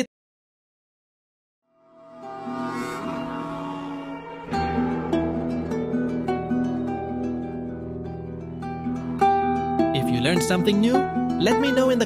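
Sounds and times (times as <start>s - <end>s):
background music with held notes: 2.0s - 12.0s.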